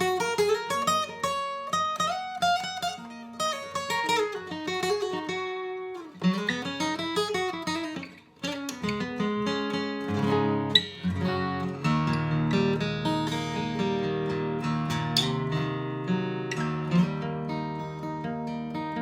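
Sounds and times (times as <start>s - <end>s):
fingerstyle acoustic guitar: 0.0s - 19.0s.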